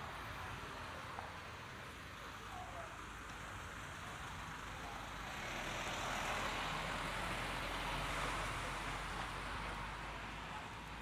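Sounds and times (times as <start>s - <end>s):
car tyres hissing on wet street: 0.0s - 11.0s.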